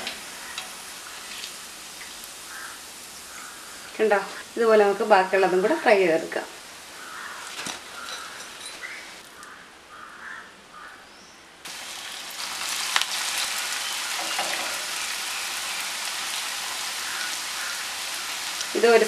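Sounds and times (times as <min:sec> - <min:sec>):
food deep-frying in hot oil: 0:00.0 - 0:09.3, 0:11.6 - 0:19.0.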